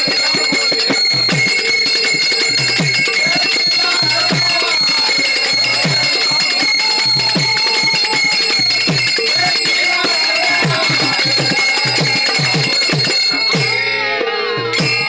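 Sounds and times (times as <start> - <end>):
hand drum beating: 0.0 - 13.8
group singing: 0.0 - 15.0
small hand cymbals ringing: 0.0 - 15.0.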